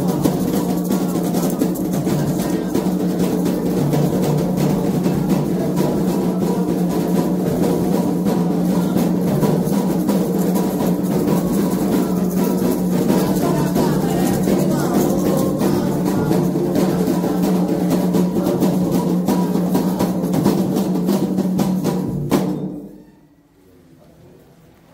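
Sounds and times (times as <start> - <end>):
fast hand drumming: 0.0 - 22.7.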